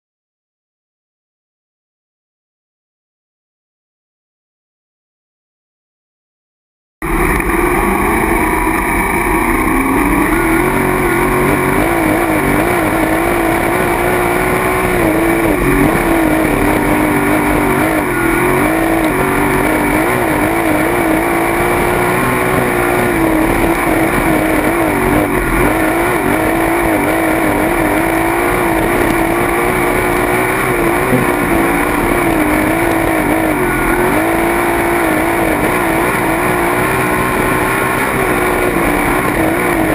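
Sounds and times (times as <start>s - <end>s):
race car engine at speed: 7.0s - 39.9s.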